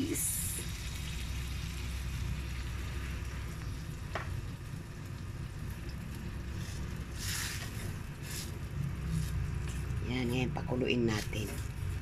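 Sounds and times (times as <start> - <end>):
steady low hum: 0.0 - 12.0
stew simmering in pot: 0.0 - 12.0.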